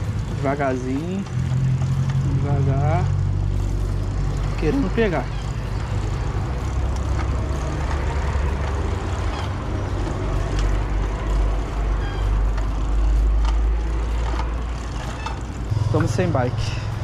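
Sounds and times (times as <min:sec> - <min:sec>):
bicycle pedal crank clicks: 0:00.0 - 0:16.1
street traffic rumble: 0:00.0 - 0:17.0.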